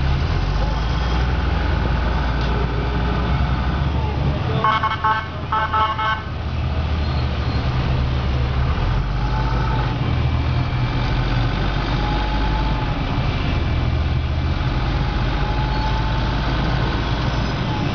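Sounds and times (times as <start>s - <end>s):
diesel truck engine running: 0.0s - 17.9s.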